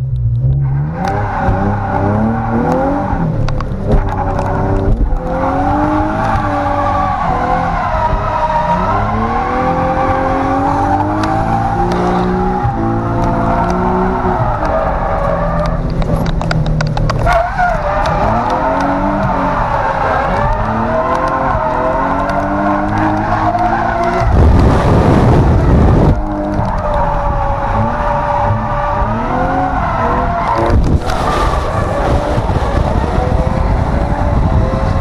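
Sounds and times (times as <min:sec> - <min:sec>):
car engine revving: 0:00.2 - 0:35.0
tires squealing: 0:00.6 - 0:35.0.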